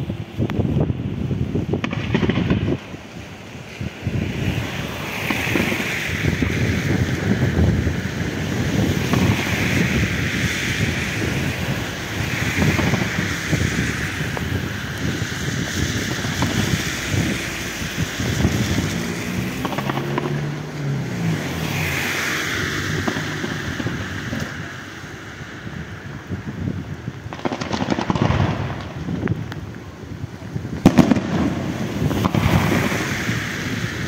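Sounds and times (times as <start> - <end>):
fireworks bangs and crackle: 0.0 - 34.0
rockets hissing rush: 0.0 - 34.0.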